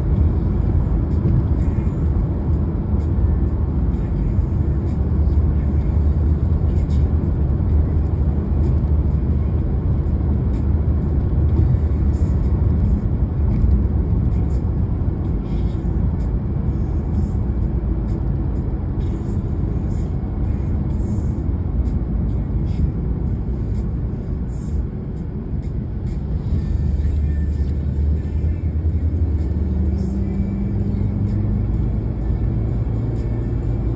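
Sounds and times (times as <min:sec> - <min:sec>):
car driving on road: 0:00.0 - 0:33.9.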